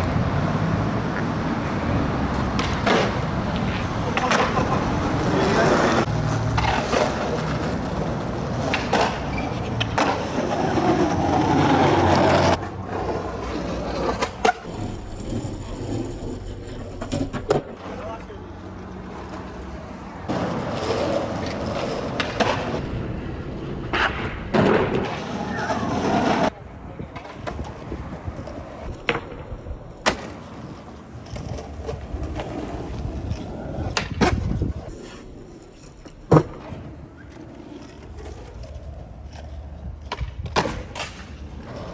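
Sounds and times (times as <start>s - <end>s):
skateboard clacks: 0.0s - 14.7s, 17.0s - 22.8s, 23.9s - 34.9s, 36.0s - 41.9s
skateboard wheels rolling on pavement: 0.0s - 41.9s.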